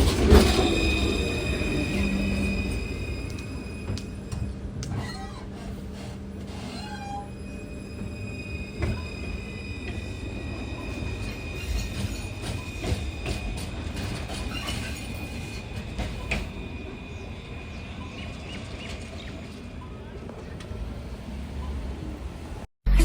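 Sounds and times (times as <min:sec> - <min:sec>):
tram running rumble: 0:00.0 - 0:22.7
tram wheel squeal: 0:00.0 - 0:22.7.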